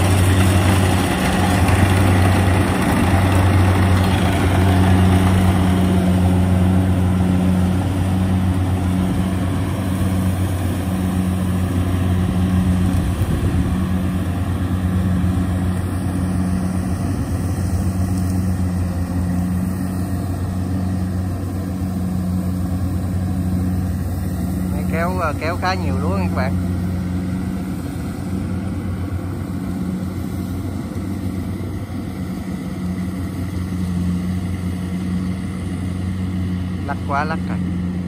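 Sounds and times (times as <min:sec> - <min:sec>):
harvester engine running: 0:00.0 - 0:38.0.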